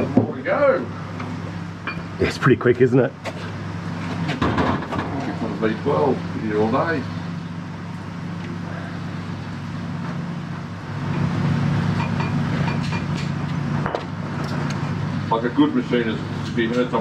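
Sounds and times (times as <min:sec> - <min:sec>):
low mechanical motor hum: 0:00.0 - 0:17.0.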